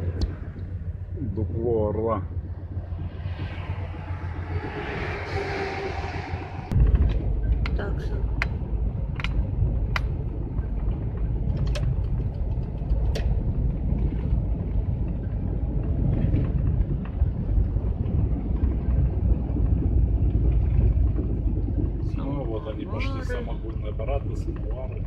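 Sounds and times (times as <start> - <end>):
van engine and road rumble: 0.0 - 25.0.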